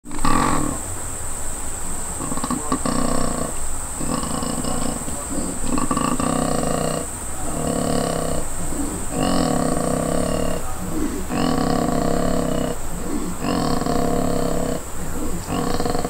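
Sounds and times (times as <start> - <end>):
koala snore-like calls: 0.1 - 0.9, 2.1 - 16.0.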